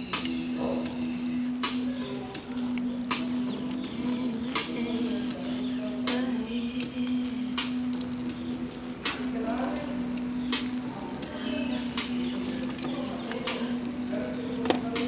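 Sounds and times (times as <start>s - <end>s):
meat fat sizzling on grill: 0.0s - 15.0s
steady low tone: 0.0s - 15.0s.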